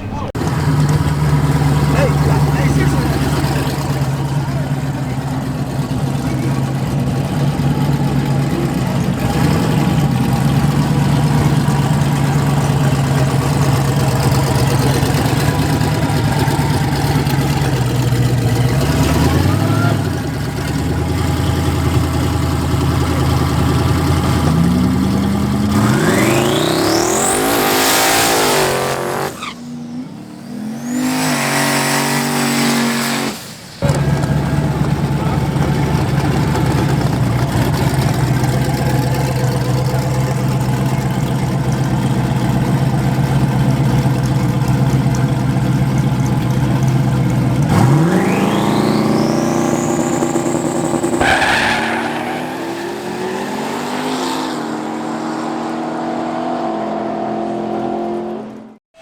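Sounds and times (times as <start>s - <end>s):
drag race car engines accelerating: 0.0s - 58.8s.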